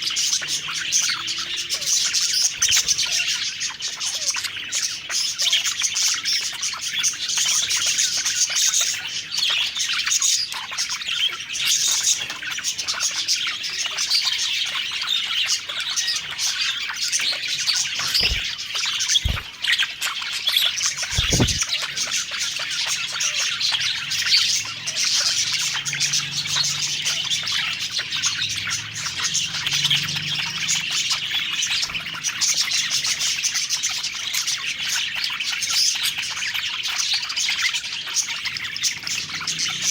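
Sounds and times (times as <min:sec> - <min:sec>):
parakeets chattering and chirping: 0:00.0 - 0:39.9.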